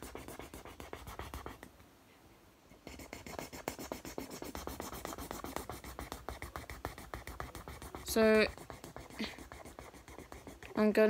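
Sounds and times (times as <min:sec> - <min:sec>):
felt-tip pen scribbling on paper: 0:00.0 - 0:01.7, 0:02.8 - 0:11.0.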